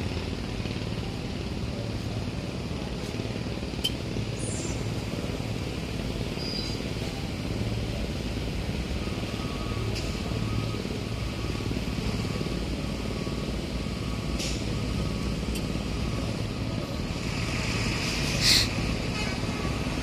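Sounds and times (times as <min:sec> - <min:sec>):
ship diesel engines droning: 0:00.0 - 0:20.0.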